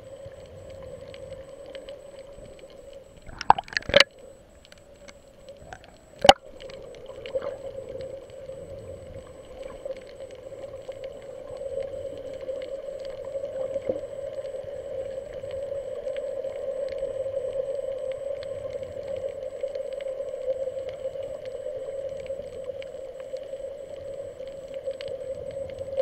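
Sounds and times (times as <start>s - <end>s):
faint clicks: 0.0s - 26.0s
underwater hum: 0.0s - 26.0s.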